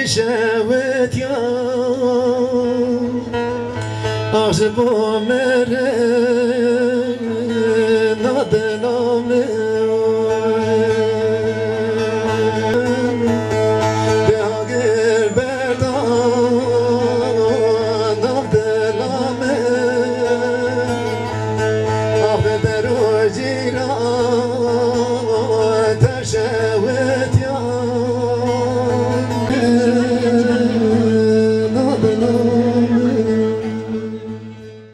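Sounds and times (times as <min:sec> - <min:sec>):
man singing ornamented phrases: 0:00.0 - 0:34.9
oud accompaniment: 0:00.0 - 0:34.9.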